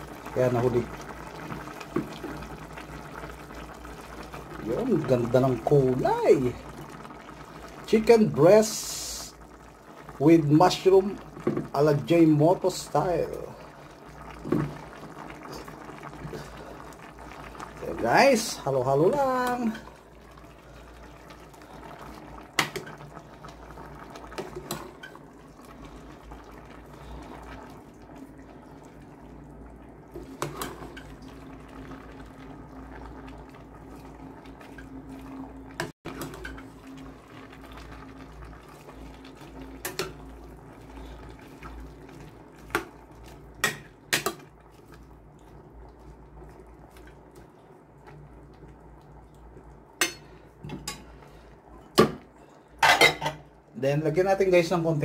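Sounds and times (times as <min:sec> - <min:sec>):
food bubbling: 0:00.0 - 0:55.0.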